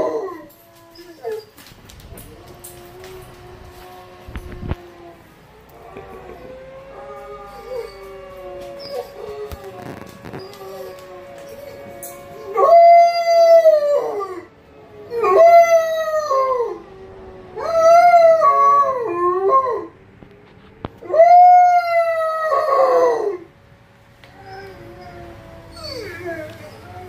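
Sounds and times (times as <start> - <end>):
dog howling: 0.0 - 20.0, 21.0 - 23.5, 24.3 - 27.0.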